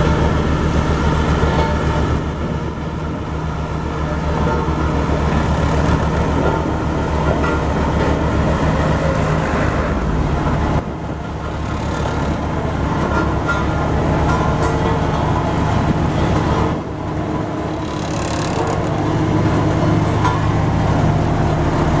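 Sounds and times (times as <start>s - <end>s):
road roller diesel engine: 0.0s - 22.0s.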